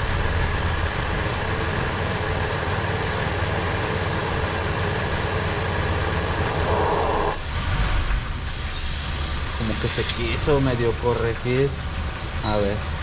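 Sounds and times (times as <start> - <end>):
car engine idling with misfire: 0.0 - 13.0.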